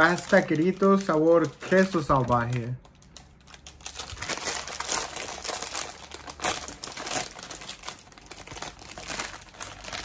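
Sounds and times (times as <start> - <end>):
snack bag crinkling: 0.0 - 10.0.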